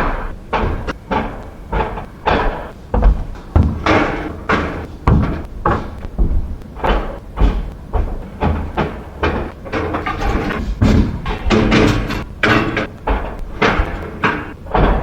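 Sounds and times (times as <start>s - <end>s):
loud bangs of hard objects: 0.0s - 15.0s.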